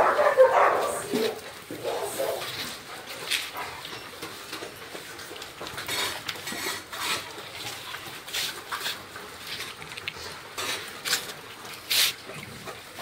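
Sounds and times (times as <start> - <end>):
dogs scuffling on tiled floor: 0.0 - 12.8.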